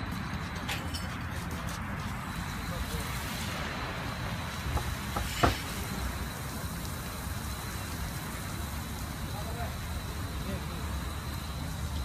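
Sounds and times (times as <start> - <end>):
high-pressure water jets spraying: 0.3 - 12.0.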